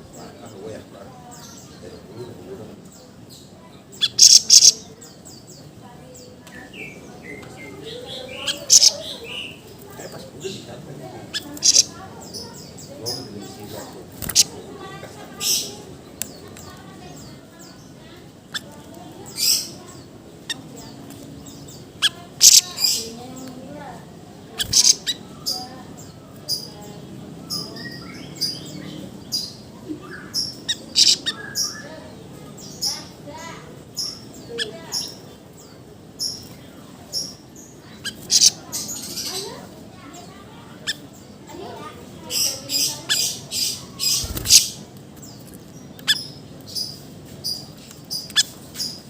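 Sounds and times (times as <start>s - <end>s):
songbird calling: 0.0s - 49.0s.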